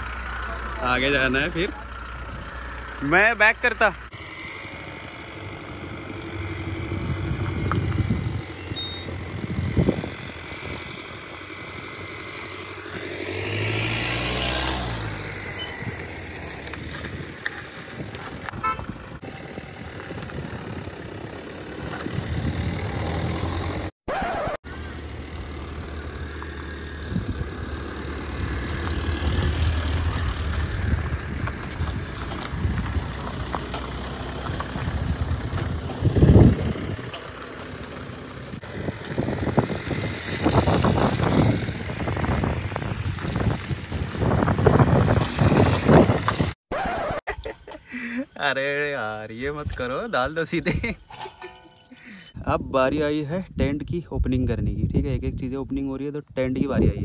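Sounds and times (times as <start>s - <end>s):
diesel engines driving slowly: 0.0s - 24.0s, 24.6s - 46.6s, 47.3s - 57.0s.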